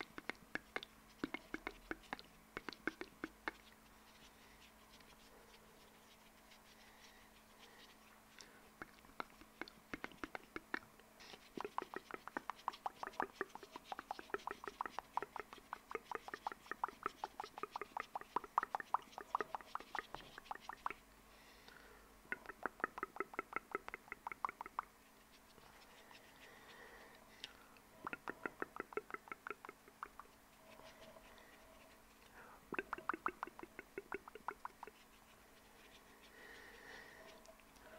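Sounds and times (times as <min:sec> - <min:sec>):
wet tongue and lip clicks: 0:00.0 - 0:05.3, 0:07.6 - 0:21.0, 0:21.7 - 0:24.9, 0:25.8 - 0:35.2.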